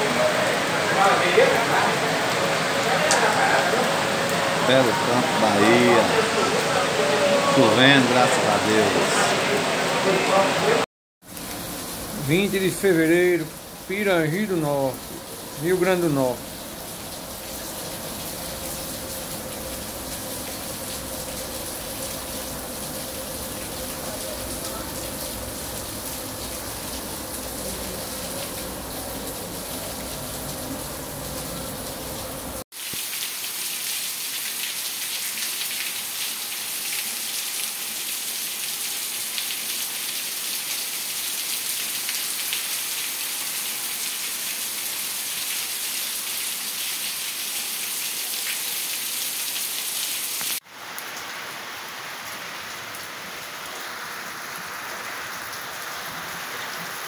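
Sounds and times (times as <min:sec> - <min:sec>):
heavy rain: 0:00.0 - 0:57.0
rain falling on tiled roofs: 0:00.0 - 0:57.0
close raindrops: 0:11.2 - 0:57.0.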